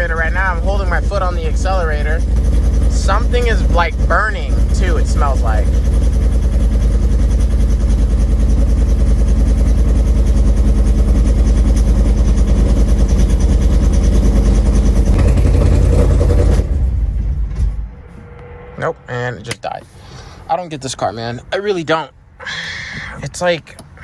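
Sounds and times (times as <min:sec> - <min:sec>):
car engine running rough: 0:00.0 - 0:20.0.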